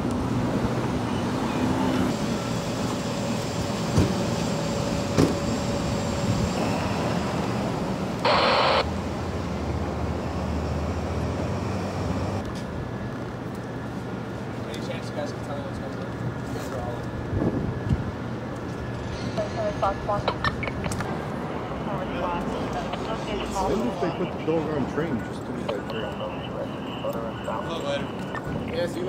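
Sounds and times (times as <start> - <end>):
traffic hum: 0.0 - 29.0
vehicle engines running: 0.0 - 29.0.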